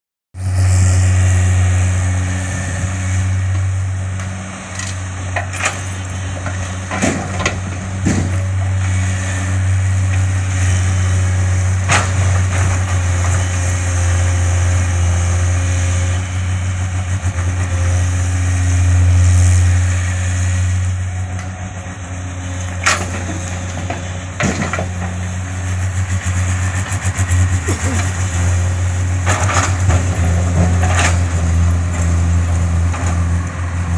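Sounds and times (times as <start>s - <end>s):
excavator diesel engine humming: 0.4s - 33.9s.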